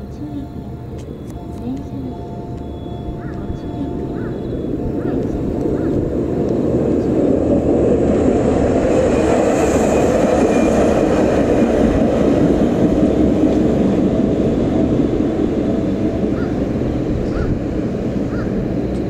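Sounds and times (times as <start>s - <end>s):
tram passing: 0.0s - 19.0s.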